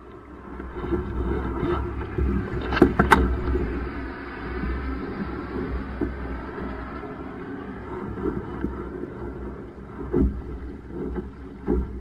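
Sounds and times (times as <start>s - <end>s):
water rushing past hull: 0.0s - 12.0s
wind on microphone: 0.0s - 12.0s.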